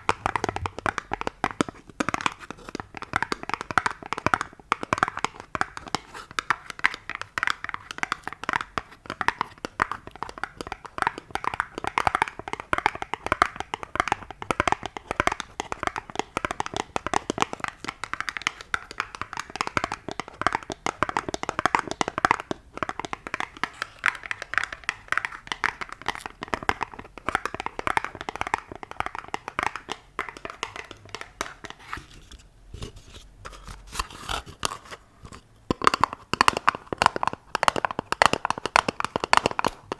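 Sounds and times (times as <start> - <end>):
fingertip tapping: 0.0 - 31.8, 35.7 - 39.9.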